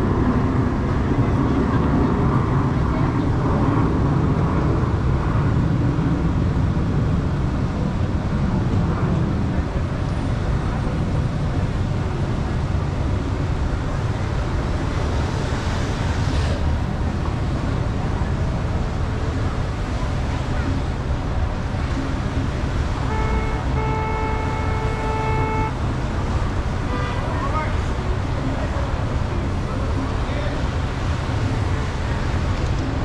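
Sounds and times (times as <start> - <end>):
car engine and tyre noise: 0.0 - 33.0.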